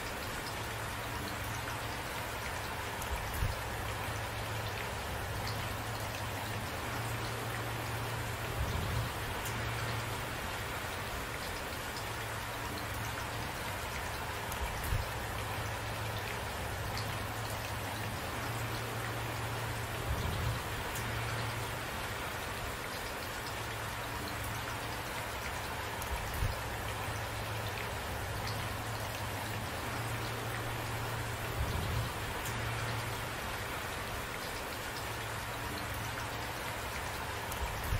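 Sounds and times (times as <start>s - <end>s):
rain falling: 0.0s - 37.9s.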